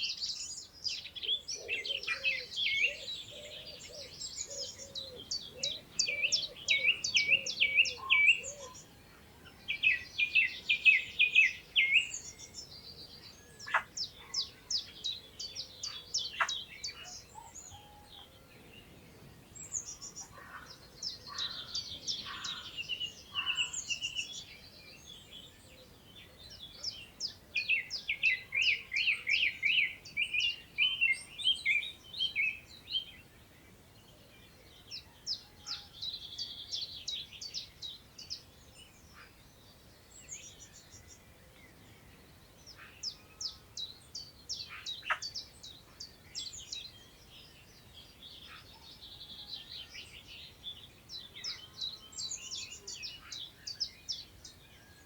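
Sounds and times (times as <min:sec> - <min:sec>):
songbirds twittering: 0:00.0 - 0:55.0.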